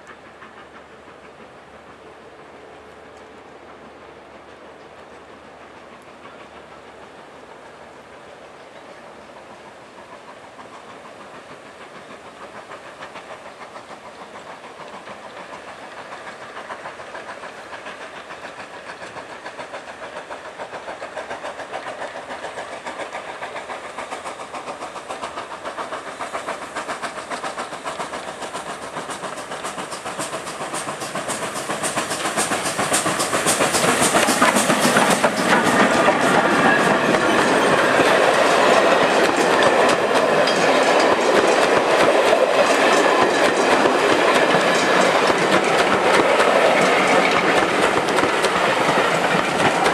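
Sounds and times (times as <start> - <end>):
steam locomotive exhaust beat: 0.0 - 49.9
train wheels clattering on rails: 0.0 - 49.9.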